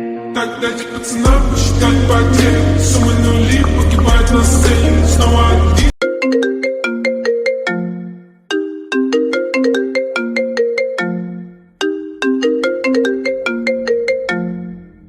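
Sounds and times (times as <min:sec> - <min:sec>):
bell-like ringtone melody: 0:02.1 - 0:05.4, 0:06.0 - 0:15.0.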